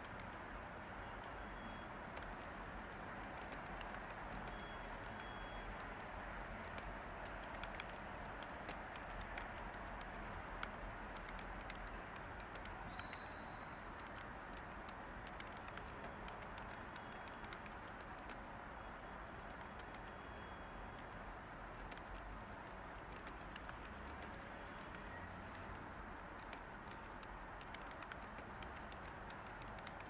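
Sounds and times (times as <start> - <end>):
computer keyboard typing: 0.0 - 0.4, 1.2 - 18.5, 19.3 - 20.4, 21.7 - 30.0
background white noise hiss: 0.0 - 30.0.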